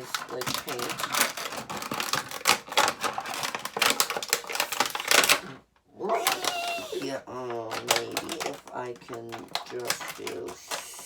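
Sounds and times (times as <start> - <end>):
plastic packaging clicking: 0.0 - 5.5, 6.1 - 11.0.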